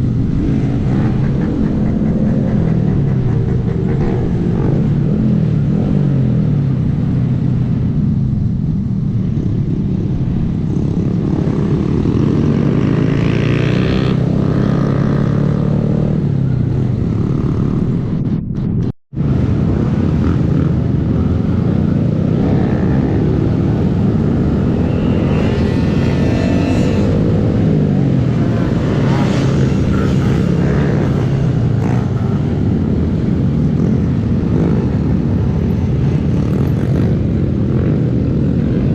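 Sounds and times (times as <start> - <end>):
motorcycle engine accelerating: 0.0 - 38.9
wind and road noise: 0.0 - 38.9.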